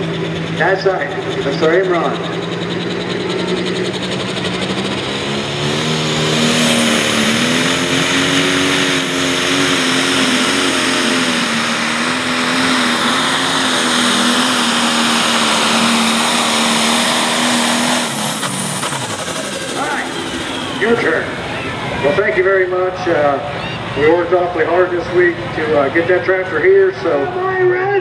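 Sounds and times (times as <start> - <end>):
diesel engine running hard: 0.0 - 28.0.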